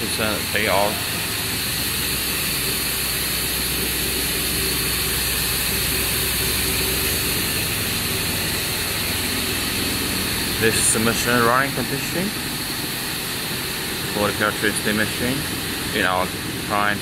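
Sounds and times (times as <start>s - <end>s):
cable twisting machine hissing: 0.0s - 16.9s
low machine hum: 0.0s - 17.0s.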